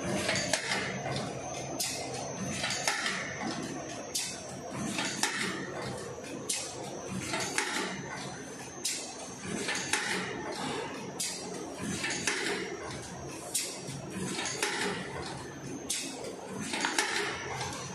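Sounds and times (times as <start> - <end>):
machine running: 0.0 - 17.9.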